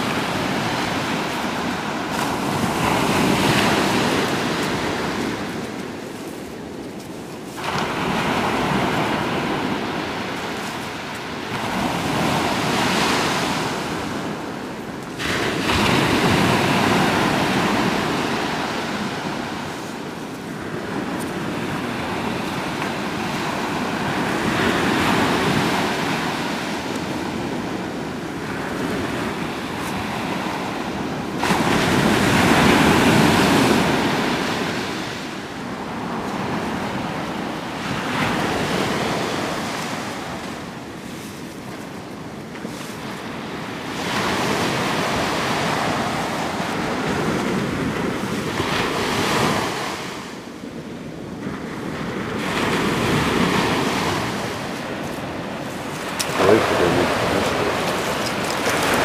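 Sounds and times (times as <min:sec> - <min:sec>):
ocean waves washing on beach: 0:00.0 - 0:59.0.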